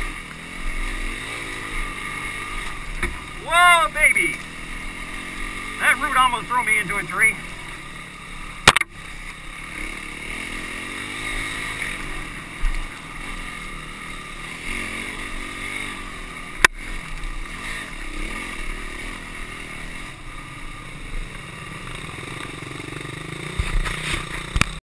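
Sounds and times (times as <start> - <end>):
dirt bike engine revving: 0.0 - 24.8.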